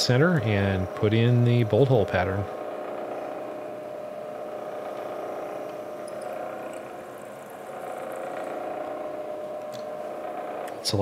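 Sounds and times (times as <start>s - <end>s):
milling machine drilling steel: 0.0s - 11.0s.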